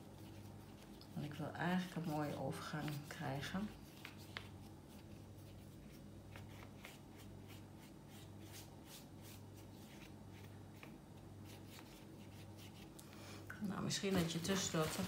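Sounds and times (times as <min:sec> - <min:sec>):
paintbrush swishing on paper: 0:00.0 - 0:13.0
low steady hum: 0:00.0 - 0:15.0.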